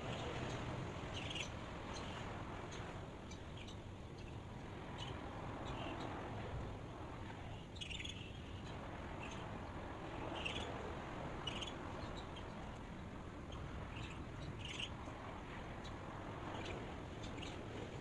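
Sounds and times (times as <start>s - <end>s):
birds chirping: 0.0s - 6.3s, 7.3s - 17.8s
steady background hiss: 0.0s - 18.0s.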